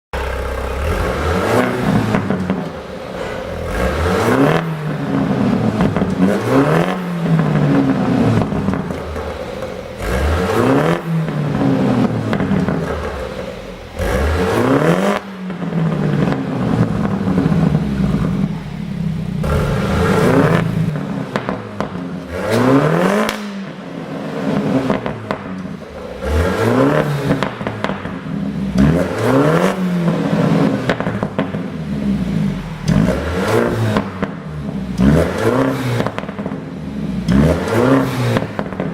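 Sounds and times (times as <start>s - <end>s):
car engine revving: 0.2s - 38.9s
exhaust pops and crackles: 0.2s - 38.9s.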